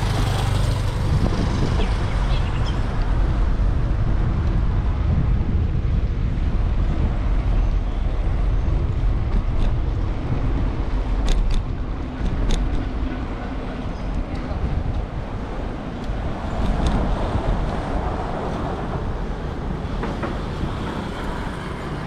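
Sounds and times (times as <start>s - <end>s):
passing road traffic: 0.0s - 22.0s
wind rumbling on microphone: 0.0s - 22.0s.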